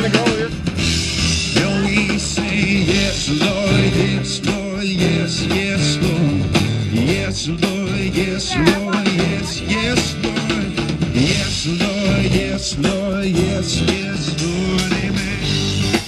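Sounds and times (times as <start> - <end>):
drum kit beat: 0.0 - 16.0
live rock band: 0.0 - 16.0.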